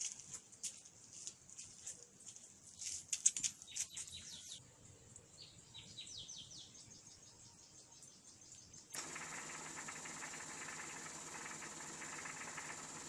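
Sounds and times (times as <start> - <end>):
faint birdsong: 0.5 - 13.0.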